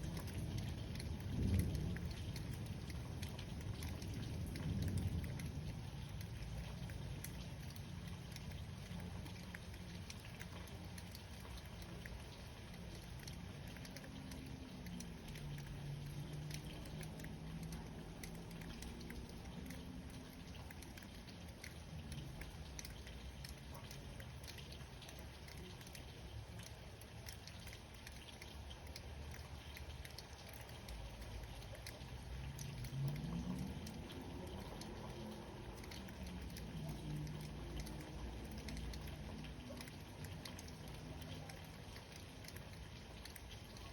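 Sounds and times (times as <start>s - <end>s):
low steady rain rumble: 0.0s - 43.9s
raindrop taps: 0.0s - 43.9s.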